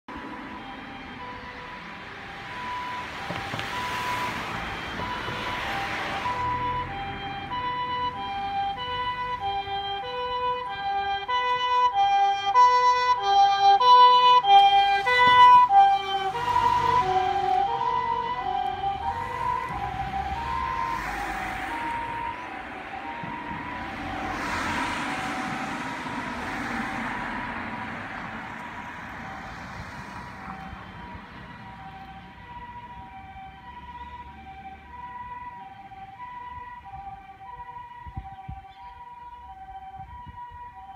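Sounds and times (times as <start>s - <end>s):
passing cars swishing: 0.1s - 38.0s
two-tone ambulance siren: 0.1s - 40.9s.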